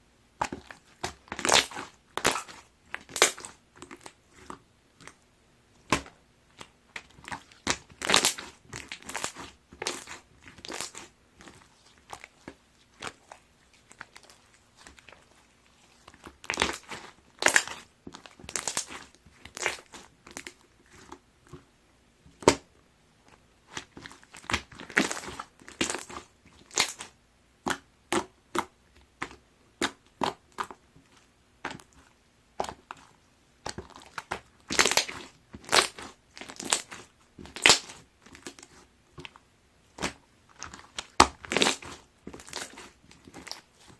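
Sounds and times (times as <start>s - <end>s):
watery slime squished by hand: 0.4s - 5.2s, 5.8s - 21.6s, 23.7s - 30.8s, 31.6s - 43.9s.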